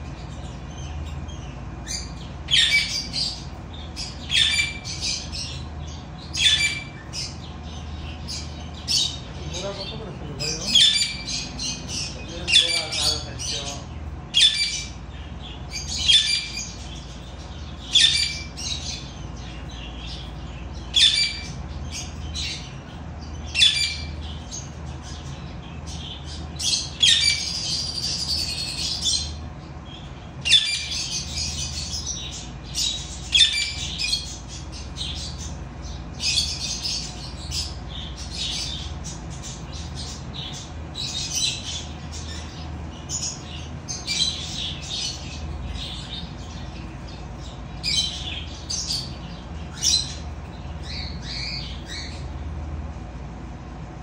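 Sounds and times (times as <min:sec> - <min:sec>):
cockatiels squawking: 0:00.4 - 0:29.4, 0:30.4 - 0:52.3.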